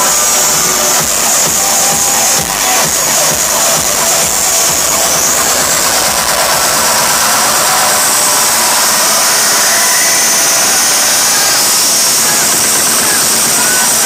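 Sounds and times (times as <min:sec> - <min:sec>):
distorted dance music and crowd: 0:00.0 - 0:14.0
high hiss: 0:00.0 - 0:14.0.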